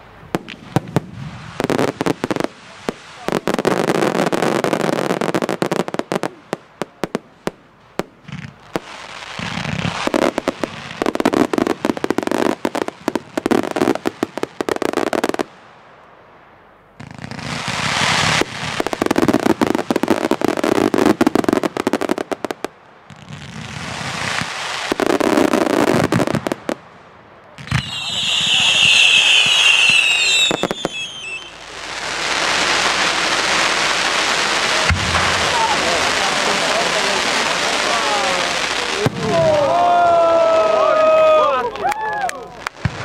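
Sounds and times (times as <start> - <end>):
fireworks bangs and crackling: 0.0 - 16.1, 16.9 - 41.9, 42.5 - 43.0.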